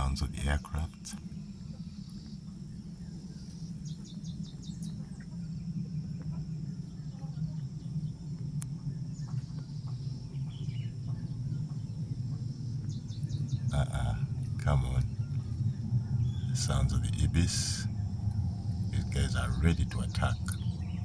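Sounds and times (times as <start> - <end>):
distant aircraft drone: 0.0 - 21.0
insects chirring: 0.0 - 21.0.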